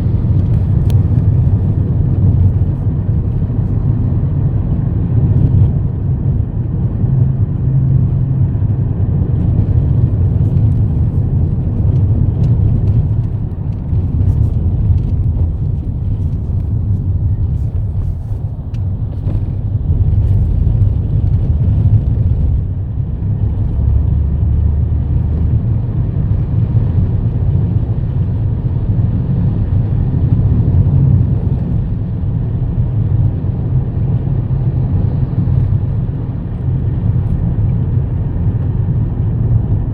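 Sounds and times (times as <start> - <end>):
car driving on road rumble: 0.0 - 39.9.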